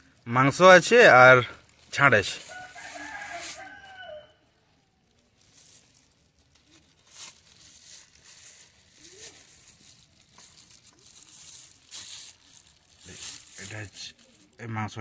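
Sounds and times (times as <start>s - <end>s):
plastic wrapping crinkling: 0.0s - 14.6s.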